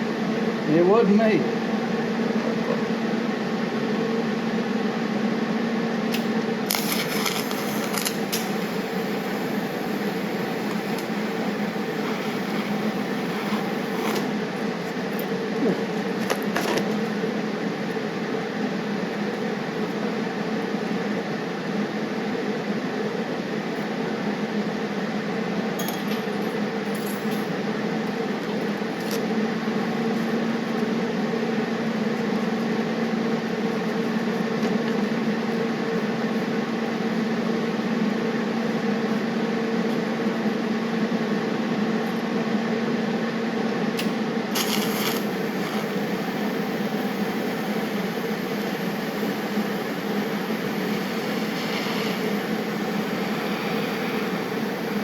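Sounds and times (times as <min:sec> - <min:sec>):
welder electric hum: 0:00.0 - 0:26.9, 0:27.6 - 0:55.0.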